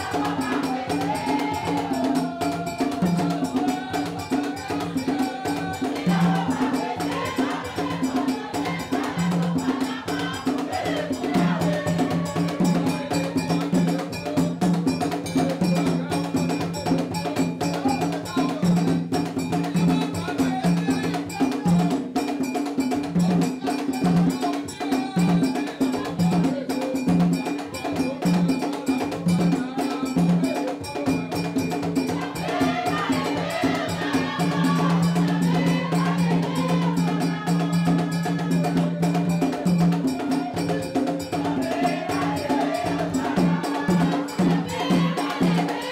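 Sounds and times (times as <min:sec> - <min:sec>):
rapid percussion: 0:00.0 - 0:45.9
voices singing: 0:00.0 - 0:45.9.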